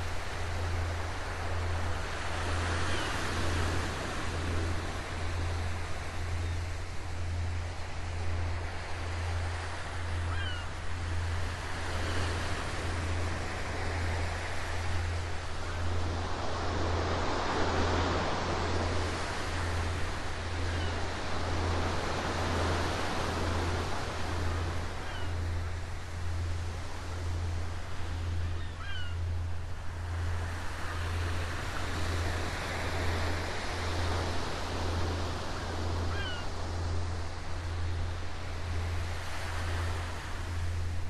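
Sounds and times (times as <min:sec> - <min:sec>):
ocean waves surf hiss: 0:00.0 - 0:41.0.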